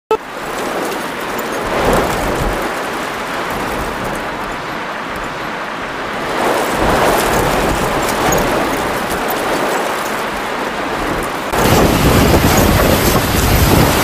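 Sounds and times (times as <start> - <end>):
gusting wind: 0.1 - 14.0
heavy rain: 0.1 - 14.0.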